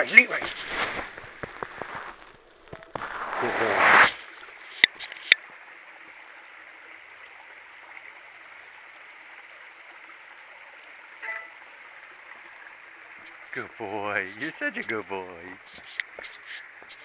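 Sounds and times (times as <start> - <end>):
creek trickling over rocks: 0.0 - 17.0.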